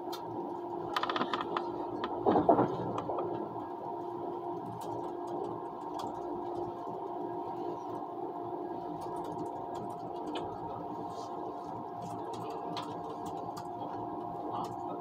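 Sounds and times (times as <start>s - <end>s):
train running hum inside carriage: 0.0s - 15.0s.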